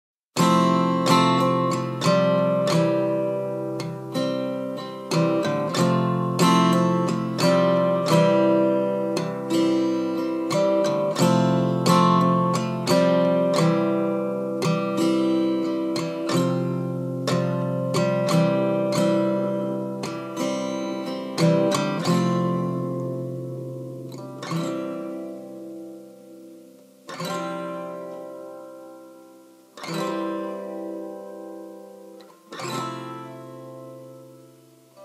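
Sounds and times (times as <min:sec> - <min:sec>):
acoustic guitar strumming chords: 0:00.4 - 0:35.0.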